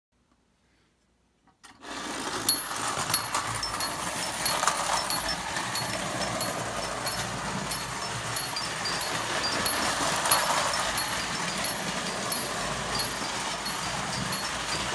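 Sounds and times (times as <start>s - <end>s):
toy trains clattering on metal track: 1.7s - 14.9s.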